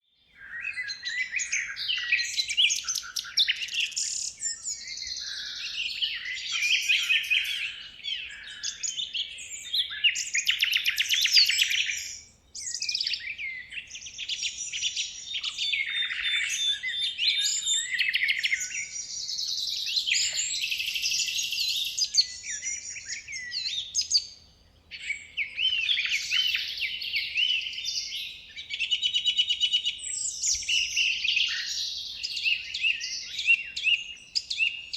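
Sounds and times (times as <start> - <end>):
birds chirping and trilling: 0.2 - 34.9.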